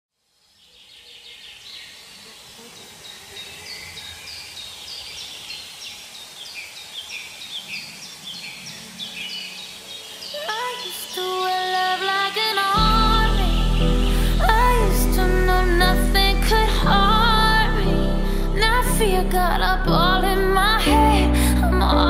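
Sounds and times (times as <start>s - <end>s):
birds chirping: 0.4s - 18.8s.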